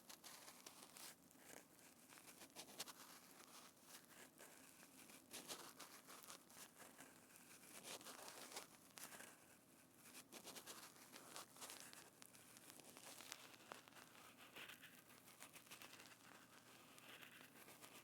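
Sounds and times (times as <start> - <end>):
crinkling soft material: 0.0 - 18.0.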